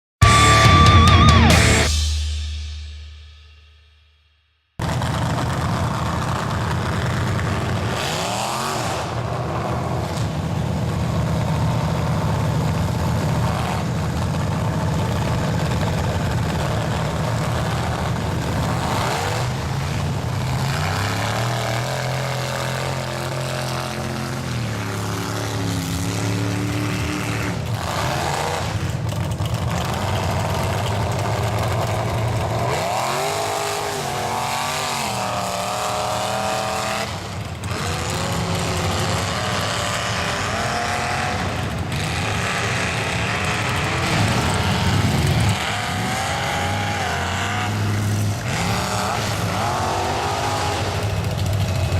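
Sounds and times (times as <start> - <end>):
truck engine revving hard: 0.2 - 1.9, 4.8 - 51.9.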